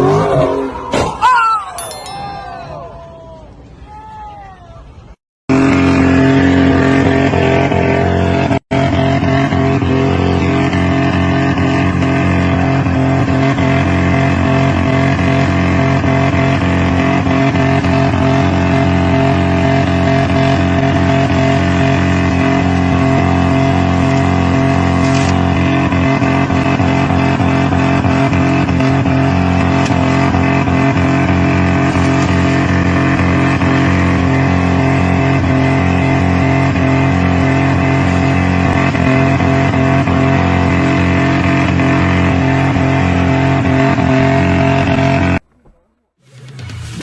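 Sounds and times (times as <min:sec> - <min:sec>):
road noise: 0:02.4 - 0:47.0
vehicle engine droning: 0:05.5 - 0:47.0.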